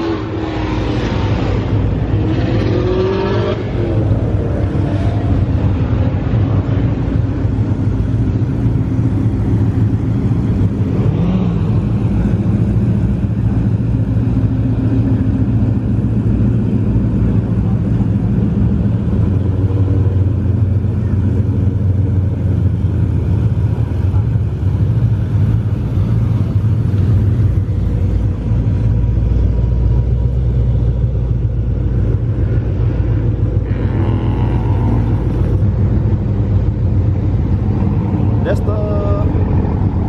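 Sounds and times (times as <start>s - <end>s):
car engines rumbling: 0.0s - 40.0s.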